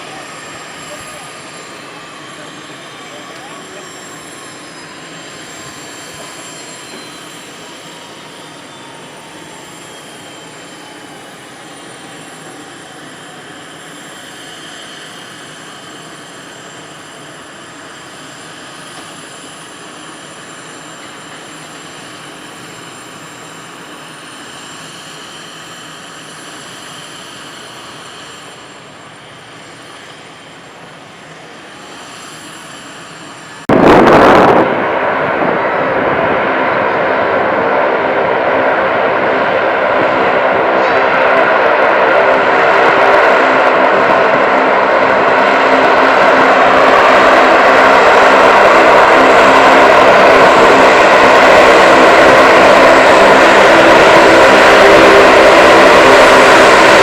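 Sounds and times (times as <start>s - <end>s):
distant turboprop engines droning: 0.0s - 57.0s
thin engine whine: 0.0s - 57.0s.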